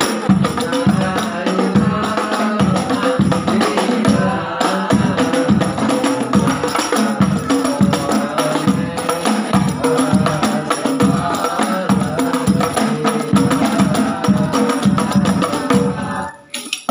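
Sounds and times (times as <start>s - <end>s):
frame drums playing: 0.0s - 16.9s.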